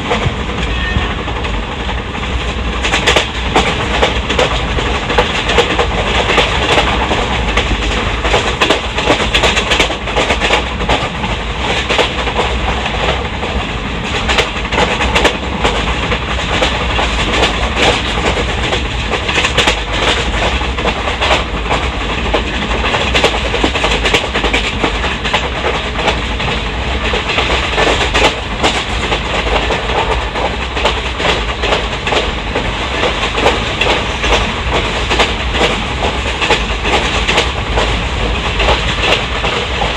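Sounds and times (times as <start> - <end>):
rumble of train wheels on rail: 0.0 - 39.9.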